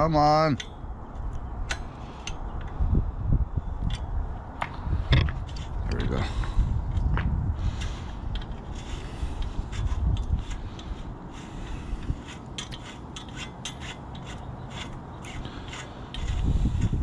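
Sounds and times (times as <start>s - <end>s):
bicycle parts scraping and rubbing: 0.0s - 3.0s, 3.8s - 17.0s.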